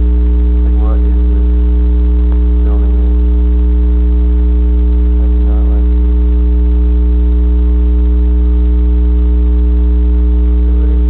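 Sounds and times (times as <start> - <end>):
loud electrical mains hum: 0.0 - 11.0.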